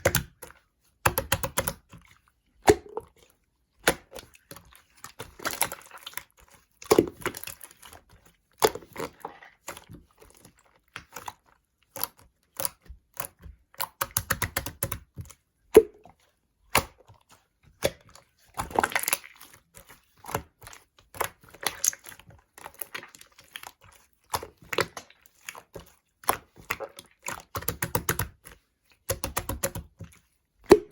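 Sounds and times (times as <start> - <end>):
slime squishing by hand: 0.0 - 30.9.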